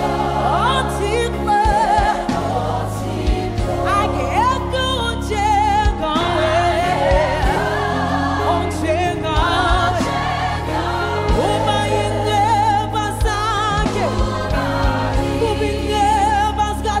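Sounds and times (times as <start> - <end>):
choir singing with vibrato: 0.0 - 17.0
deep held bass notes: 0.0 - 17.0.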